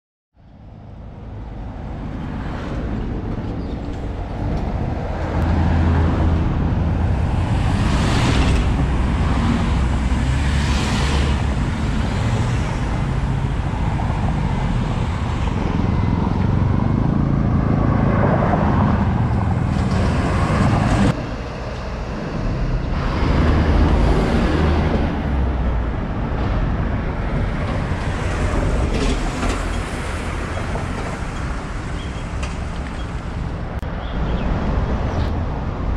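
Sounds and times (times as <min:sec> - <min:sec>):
steady traffic rumble: 0:00.4 - 0:35.9
vehicles passing close by: 0:00.4 - 0:35.9.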